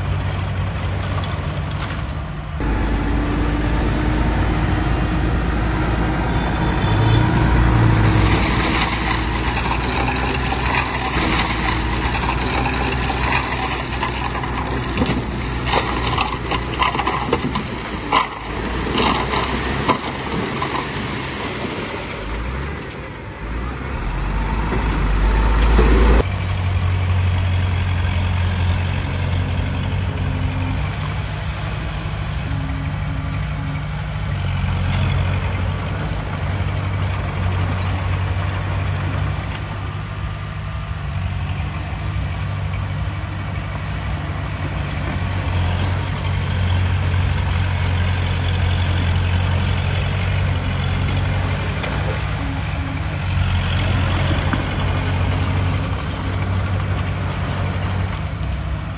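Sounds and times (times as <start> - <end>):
deep machinery rumble: 0.0 - 58.9
diesel engine drone: 0.0 - 58.9.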